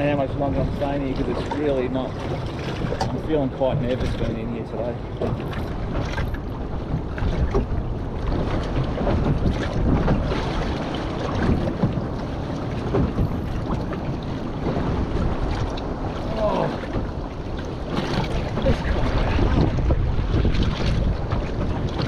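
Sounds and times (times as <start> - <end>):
choppy sea washing: 0.0 - 22.0
wind buffeting microphone: 0.0 - 22.0.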